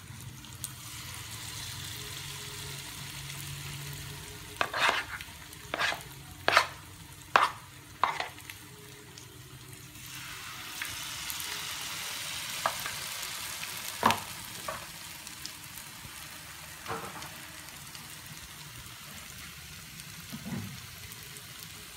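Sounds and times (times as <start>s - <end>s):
banana slices sizzling in hot oil: 0.0s - 21.9s.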